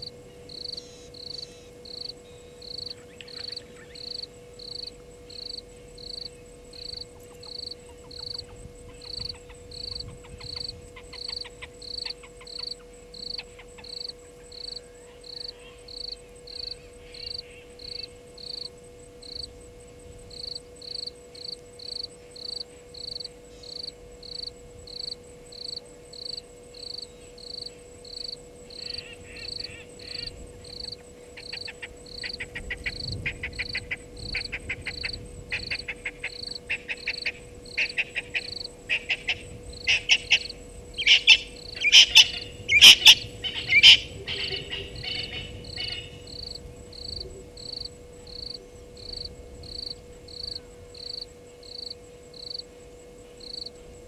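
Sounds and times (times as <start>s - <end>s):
cricket chirping: 0.0s - 54.0s
low steady hum: 0.0s - 54.0s.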